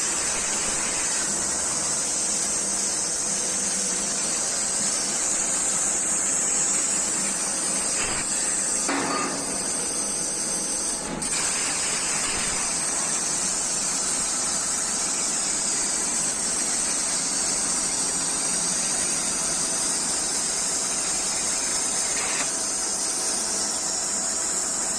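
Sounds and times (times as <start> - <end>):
plasma torch hissing: 0.0 - 23.3.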